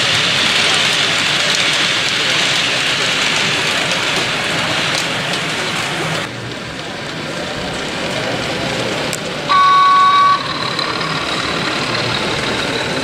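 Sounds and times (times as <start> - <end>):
model train wheels clattering on rail: 0.0 - 9.6, 10.2 - 13.0.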